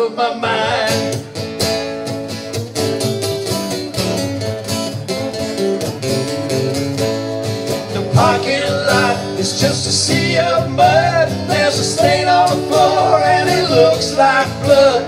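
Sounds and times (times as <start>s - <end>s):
acoustic guitars strumming: 0.0s - 15.0s.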